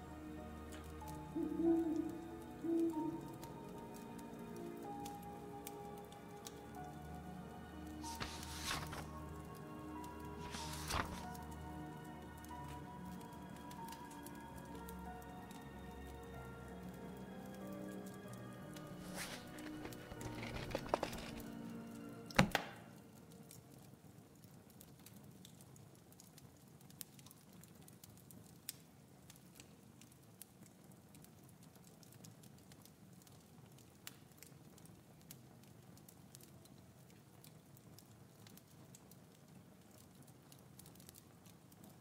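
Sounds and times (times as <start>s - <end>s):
faint steady crackling: 0.0s - 42.0s.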